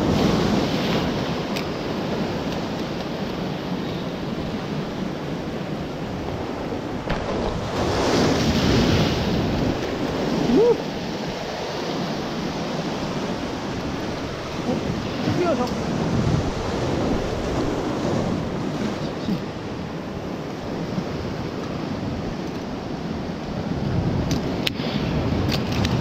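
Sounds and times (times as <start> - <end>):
surf washing against rocks: 0.0 - 26.0
wind buffeting microphone: 0.0 - 26.0.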